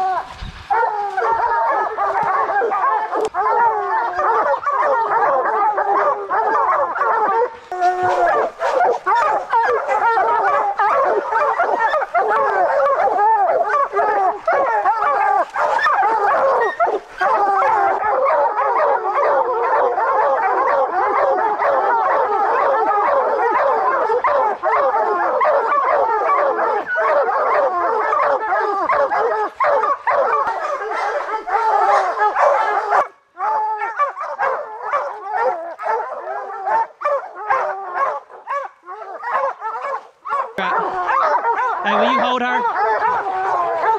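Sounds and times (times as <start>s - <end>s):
pack of hounds barking and bawling: 0.0s - 43.9s.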